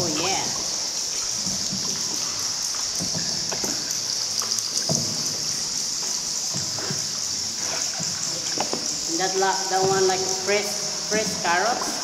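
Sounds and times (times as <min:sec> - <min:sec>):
water drips: 0:00.0 - 0:12.0
water splashing around a boat: 0:00.0 - 0:12.0.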